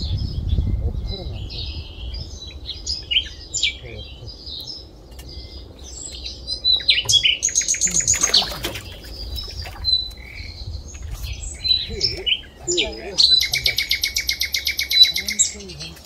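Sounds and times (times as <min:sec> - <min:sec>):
bird trilling: 0:00.0 - 0:16.0
small birds chirping: 0:00.0 - 0:16.0.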